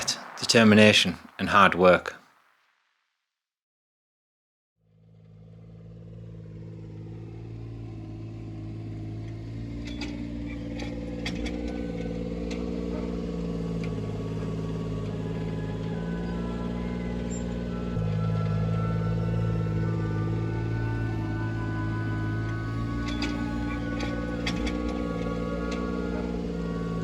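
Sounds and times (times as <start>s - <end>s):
motor vehicle engine running: 5.0s - 27.0s.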